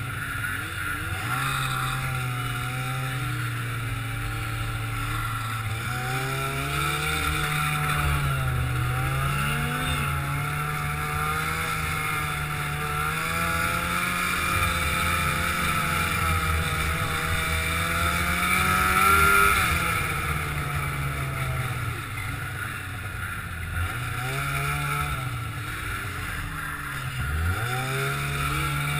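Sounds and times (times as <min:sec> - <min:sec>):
snowmobile engine running: 0:00.0 - 0:28.9.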